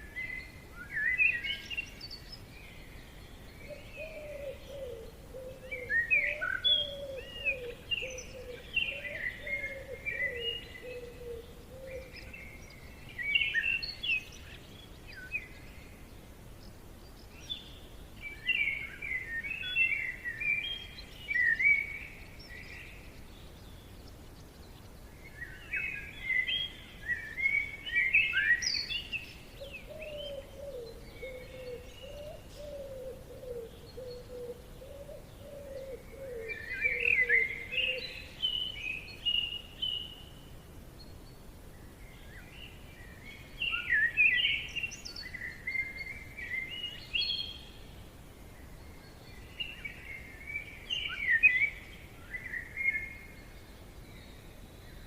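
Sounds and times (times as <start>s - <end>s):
faint steady background hiss: 0.0s - 55.0s
songbirds chirping: 0.0s - 55.0s.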